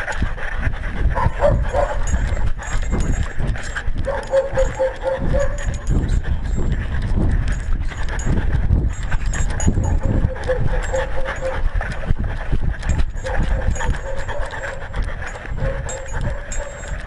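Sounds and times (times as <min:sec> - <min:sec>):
low thumps and rubbing: 0:00.0 - 0:17.0.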